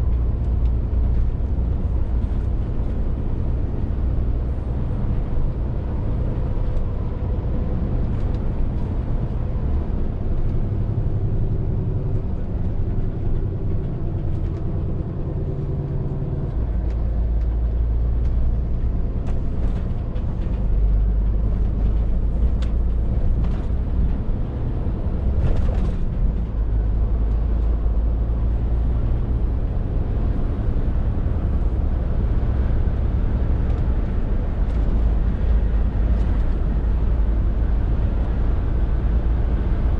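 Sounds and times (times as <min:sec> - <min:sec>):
lorry diesel engine rumbling: 0:00.0 - 0:39.9
road noise: 0:00.0 - 0:39.9.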